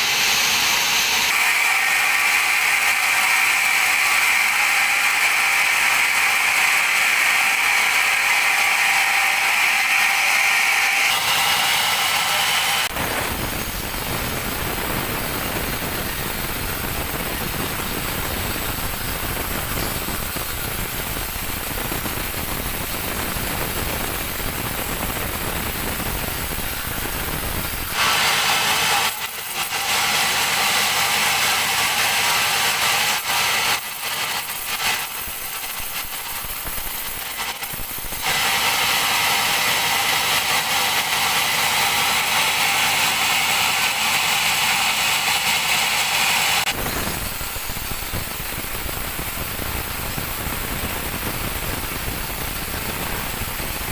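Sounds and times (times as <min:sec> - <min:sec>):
bandsaw cutting log: 0:00.0 - 0:48.0.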